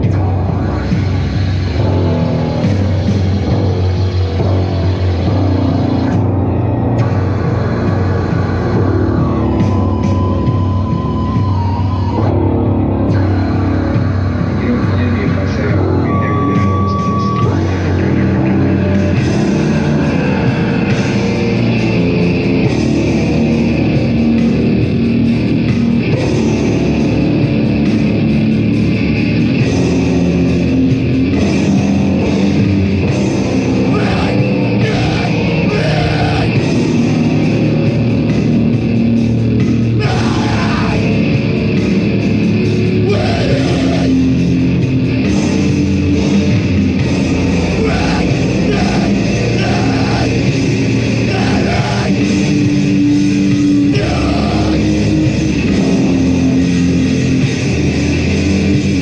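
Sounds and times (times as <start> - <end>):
live heavy metal band: 0.0 - 59.0
loud distorted guitar: 0.0 - 59.0.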